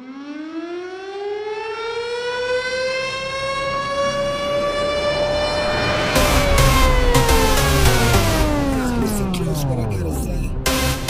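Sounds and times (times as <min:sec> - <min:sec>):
siren wailing: 0:00.0 - 0:10.7.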